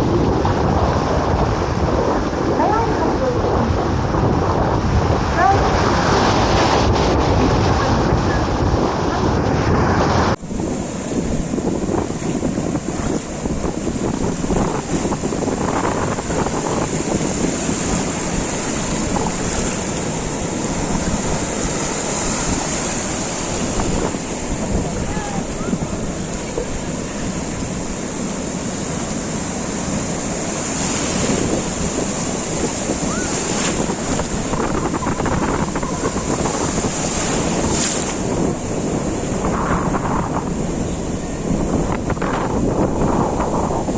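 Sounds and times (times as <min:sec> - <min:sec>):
surf breaking on a beach: 0:00.0 - 0:43.9
wind buffeting microphone: 0:00.0 - 0:43.9.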